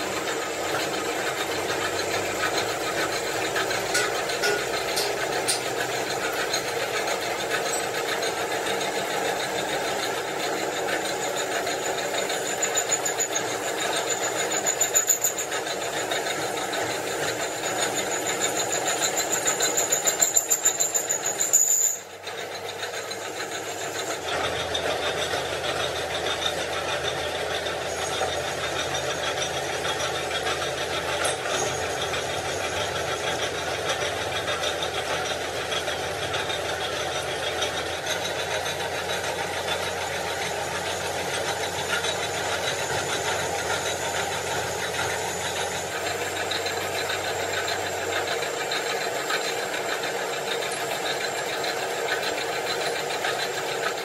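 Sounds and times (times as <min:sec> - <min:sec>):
pulsing high whine: 0:00.0 - 0:22.2, 0:26.0 - 0:52.1
workshop machinery running: 0:00.0 - 0:54.0.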